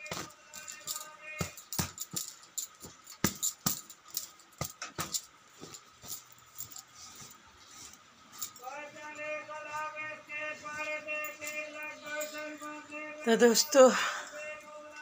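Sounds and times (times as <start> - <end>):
bedding rustling: 0.0 - 13.2
faint steady hum: 0.0 - 15.0.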